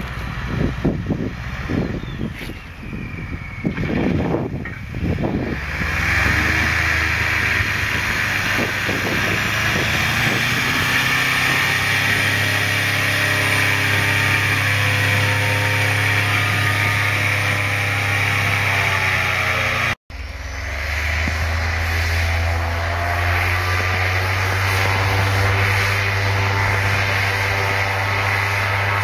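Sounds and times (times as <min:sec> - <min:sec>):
airboat engine and propeller: 0:00.0 - 0:29.0.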